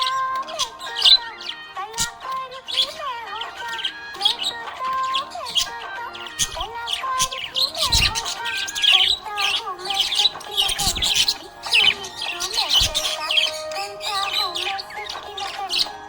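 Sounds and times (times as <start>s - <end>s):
budgerigar chirping and warbling: 0.0s - 16.0s
music playing: 0.0s - 16.0s.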